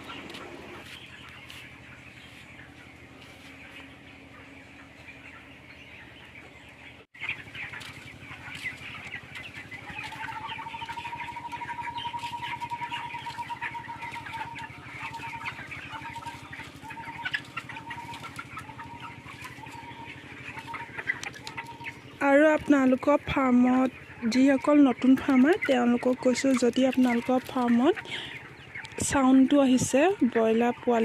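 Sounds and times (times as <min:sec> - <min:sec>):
chickens chirping: 0:00.0 - 0:31.0.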